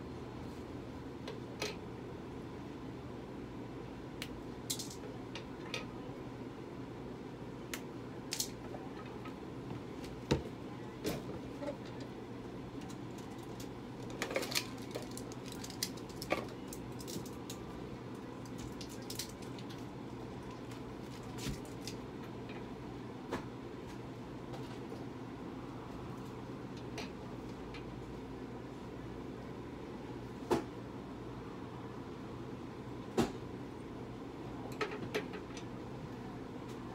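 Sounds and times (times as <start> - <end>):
low equipment hum: 0.0 - 36.9.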